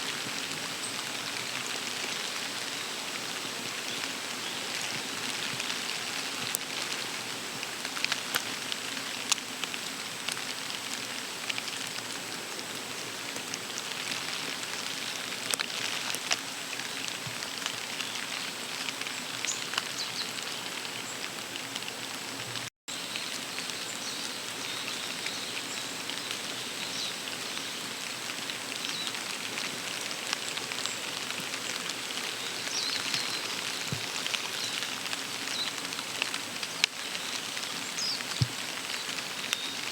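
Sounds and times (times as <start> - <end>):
steady rain: 0.0 - 39.9
raindrops ticking on surfaces: 0.1 - 39.9.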